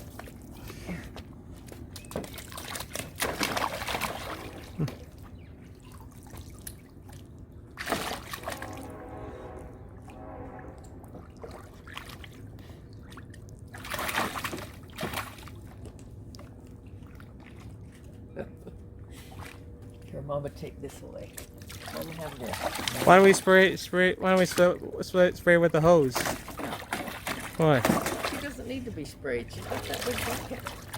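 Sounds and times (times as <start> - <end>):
water sloshing and splashing: 0.0 - 30.9.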